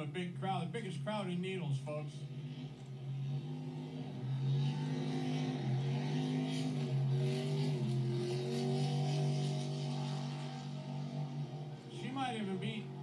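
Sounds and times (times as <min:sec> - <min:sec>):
race boat engine running hard: 0:00.2 - 0:13.0.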